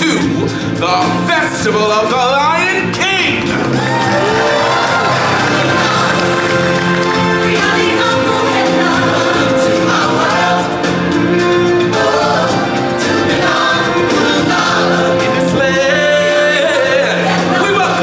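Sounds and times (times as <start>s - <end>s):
musical accompaniment: 0.0s - 18.0s
choir singing: 3.6s - 18.0s.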